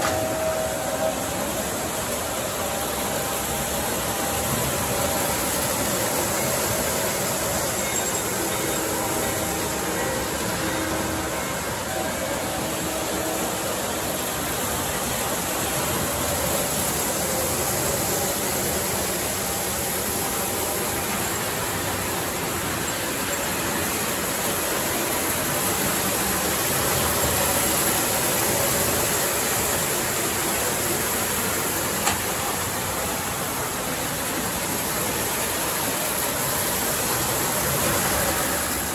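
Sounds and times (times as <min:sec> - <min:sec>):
model train rolling on track: 0:00.0 - 0:38.9.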